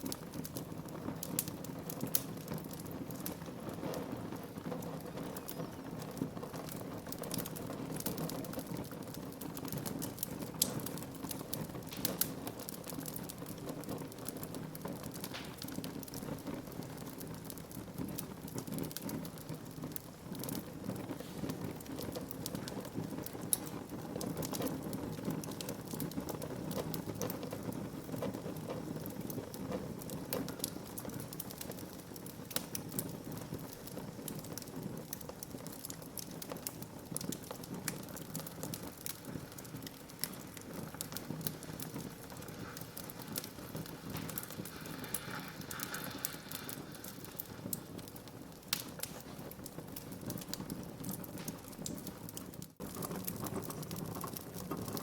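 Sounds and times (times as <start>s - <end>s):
hiss of fire flames: 0.0s - 55.0s
logs crackling and popping: 0.0s - 55.0s.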